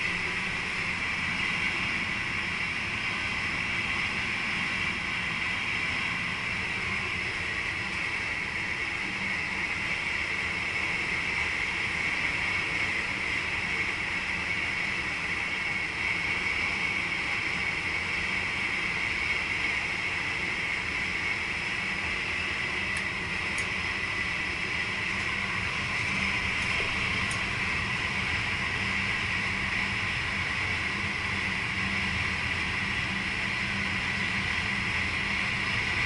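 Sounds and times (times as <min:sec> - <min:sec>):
train running noise in cab: 0:00.0 - 0:36.0.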